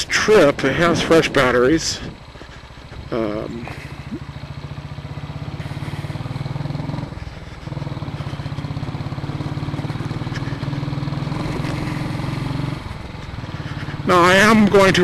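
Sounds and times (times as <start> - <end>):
motorcycle engine thumping: 0.5 - 15.0.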